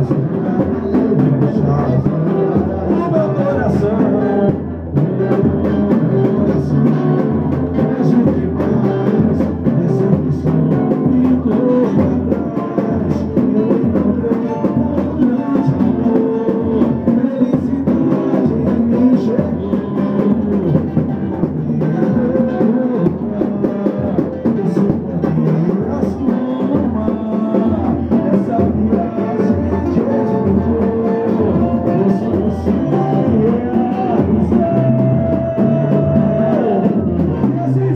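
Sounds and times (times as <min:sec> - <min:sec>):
live samba music: 0:00.0 - 0:37.9
low drum beat: 0:00.0 - 0:37.9.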